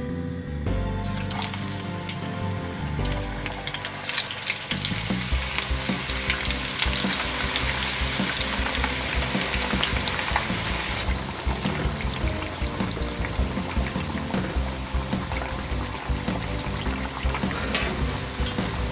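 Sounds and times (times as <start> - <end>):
light background music: 0.0 - 18.9
food frying in oil: 1.1 - 18.9.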